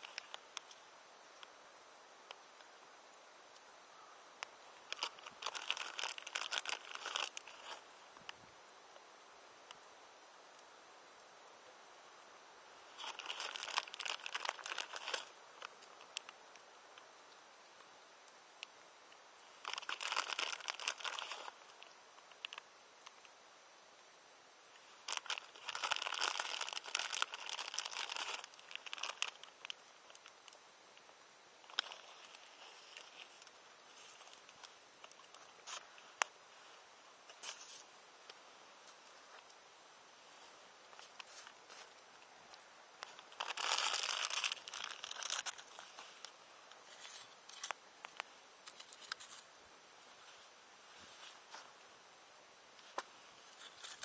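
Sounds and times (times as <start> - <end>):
crinkling crackling handling noise: 0.0 - 1.5, 4.4 - 8.4, 12.9 - 17.1, 18.3 - 23.4, 24.7 - 51.9, 52.7 - 54.0.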